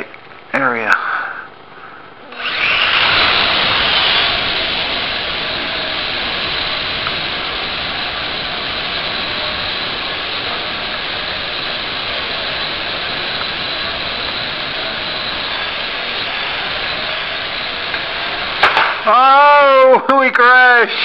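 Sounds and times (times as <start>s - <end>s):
quadcopter motors and propellers: 2.2s - 21.0s.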